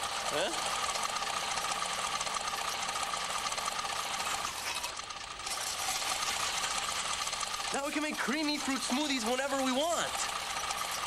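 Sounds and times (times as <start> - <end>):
blender motor whining: 0.0 - 11.0.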